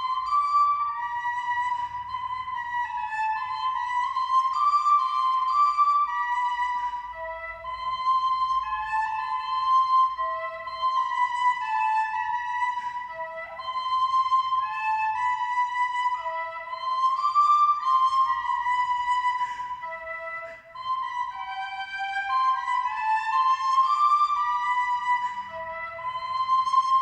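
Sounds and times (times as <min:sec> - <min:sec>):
slow flute melody: 0:00.0 - 0:27.0.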